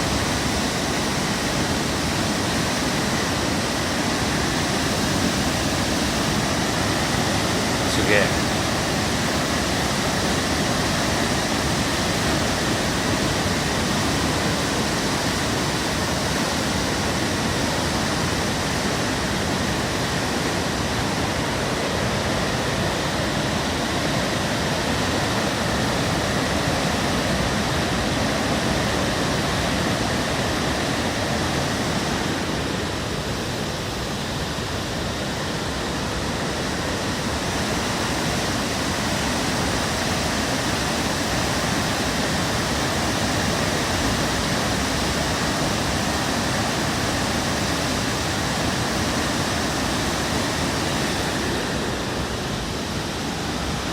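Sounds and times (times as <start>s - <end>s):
flooded river water rushing: 0.0s - 53.9s.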